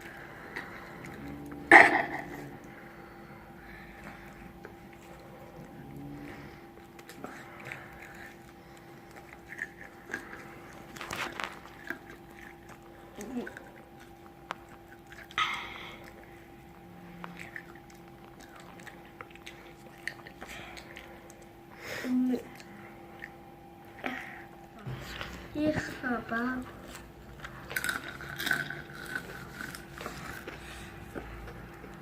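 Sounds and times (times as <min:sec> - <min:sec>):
person chewing crispy food: 0:00.0 - 0:21.8, 0:26.3 - 0:32.0
faint electrical hum: 0:00.0 - 0:32.0.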